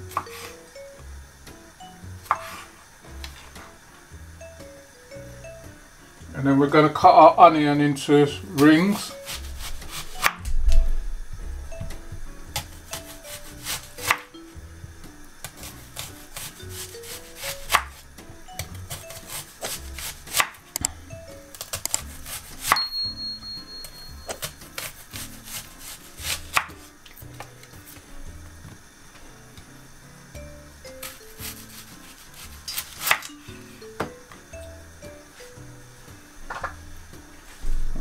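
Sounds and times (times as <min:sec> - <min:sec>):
light background music: 0:00.0 - 0:38.0.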